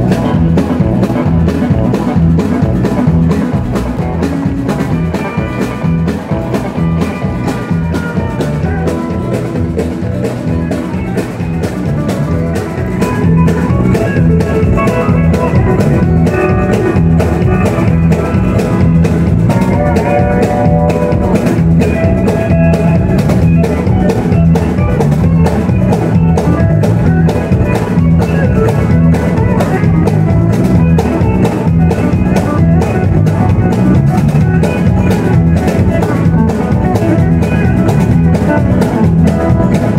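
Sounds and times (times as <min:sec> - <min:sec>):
live country band playing: 0:00.0 - 0:39.9.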